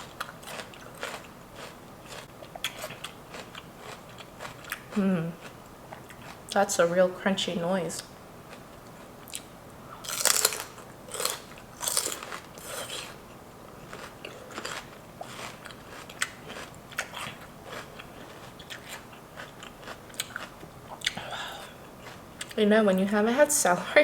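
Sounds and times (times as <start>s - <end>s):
celery crunching while chewed: 0.0s - 6.5s, 8.4s - 22.6s.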